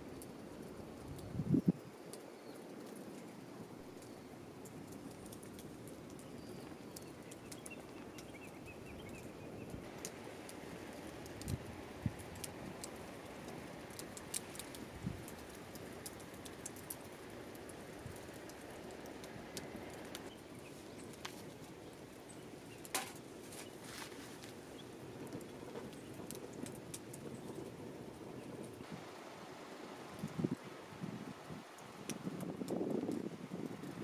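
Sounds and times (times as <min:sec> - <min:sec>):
wood fire crackling and popping: 0:00.0 - 0:29.2, 0:29.9 - 0:34.0.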